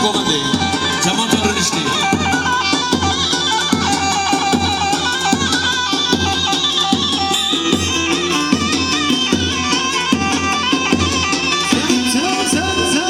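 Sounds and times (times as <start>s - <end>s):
live band instrumental music: 0.0s - 13.0s
steady drum beat: 0.0s - 13.0s.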